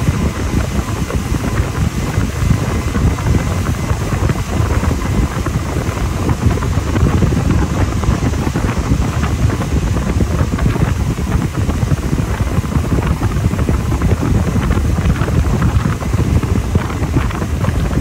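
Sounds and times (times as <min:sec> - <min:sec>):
boat rumbling through water: 0:00.0 - 0:18.0
wind buffeting microphone: 0:00.0 - 0:18.0.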